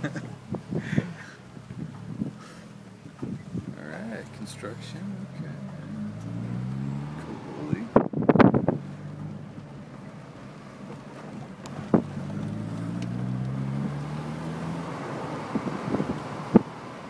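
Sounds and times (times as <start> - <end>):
tyre noise: 0.0 - 16.9
car engine from inside: 0.0 - 17.0.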